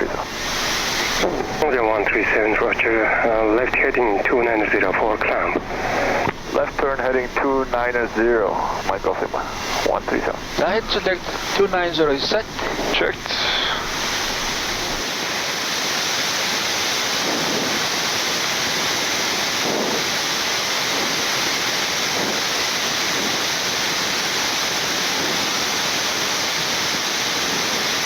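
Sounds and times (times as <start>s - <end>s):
air-conditioning noise: 0.0s - 26.7s
rushing airflow hiss: 0.0s - 28.0s.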